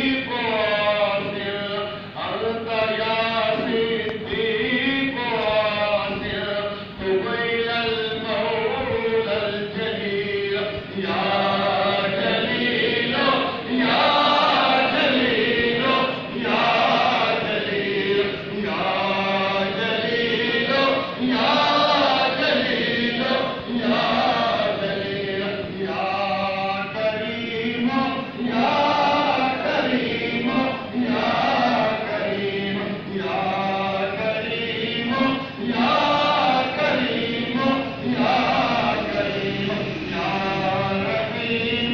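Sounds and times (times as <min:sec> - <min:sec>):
men chanting together: 0:00.0 - 0:41.9.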